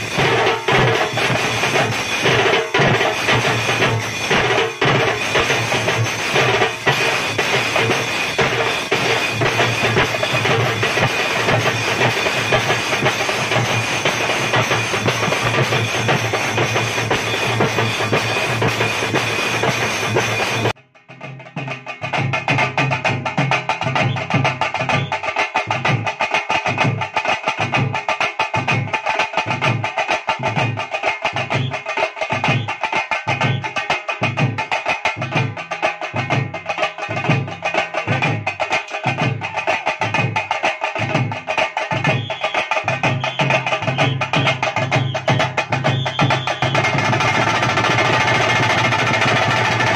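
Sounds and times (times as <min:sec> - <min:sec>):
drums playing fast rhythm: 0:00.0 - 0:49.9
pulsing bass drum beat: 0:00.0 - 0:49.9.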